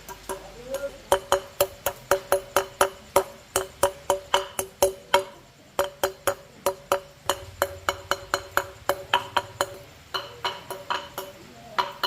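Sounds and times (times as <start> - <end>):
hammer tapping on metal: 0.0 - 12.0.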